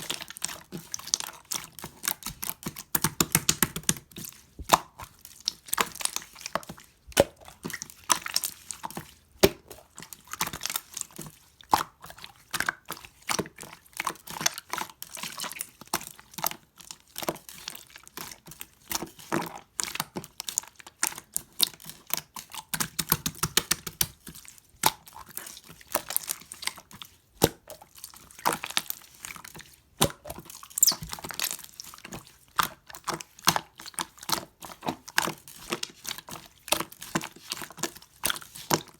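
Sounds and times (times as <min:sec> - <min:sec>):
slime squishing wet clicks: 0:00.0 - 0:16.4, 0:18.8 - 0:38.9.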